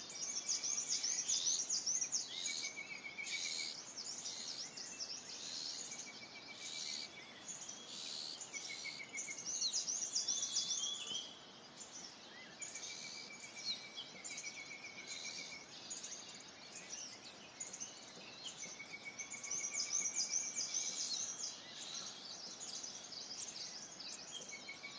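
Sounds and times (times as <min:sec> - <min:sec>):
background hiss: 0:00.0 - 0:24.9
birds chirping: 0:00.0 - 0:24.9.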